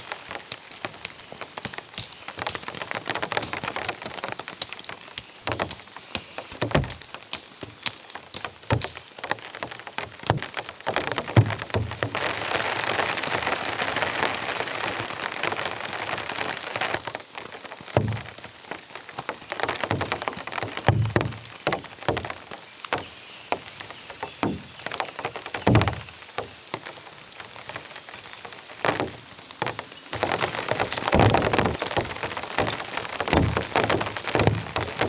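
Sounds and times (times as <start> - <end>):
heavy rain falling: 0.0 - 35.0
raindrops striking close by: 0.0 - 35.0.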